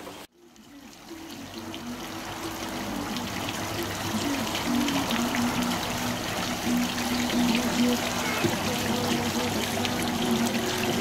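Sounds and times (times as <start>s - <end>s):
fountain water splashing: 0.0s - 11.0s
tune of held low notes: 0.4s - 11.0s.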